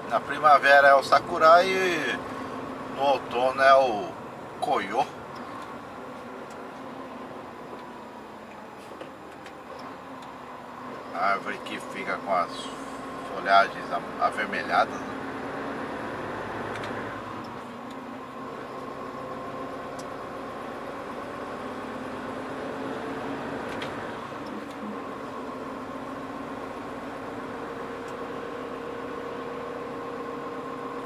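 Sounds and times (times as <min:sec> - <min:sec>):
road noise: 0:00.0 - 0:31.0
truck diesel engine running: 0:00.0 - 0:31.0.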